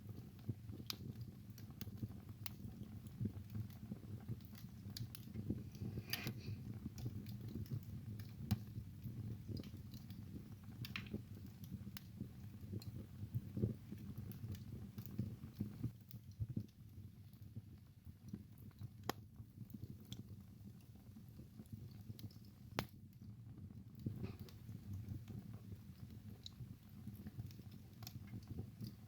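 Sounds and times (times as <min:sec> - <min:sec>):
low rumble of flames: 0:00.0 - 0:29.0
wood fire crackling and popping: 0:00.0 - 0:29.0.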